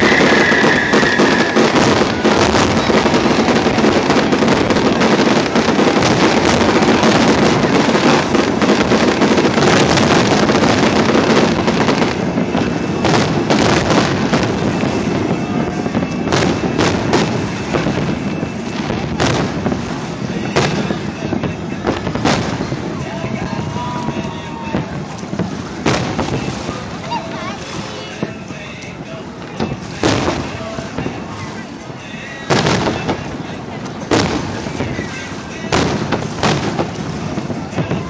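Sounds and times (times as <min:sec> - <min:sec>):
fireworks bangs and crackle: 0:00.0 - 0:38.0.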